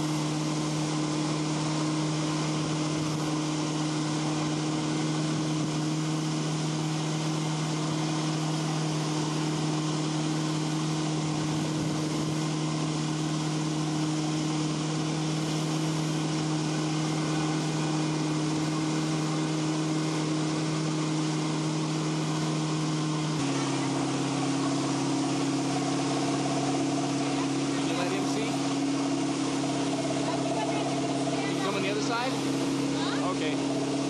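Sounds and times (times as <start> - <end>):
motorboat engine running: 0.0 - 34.0.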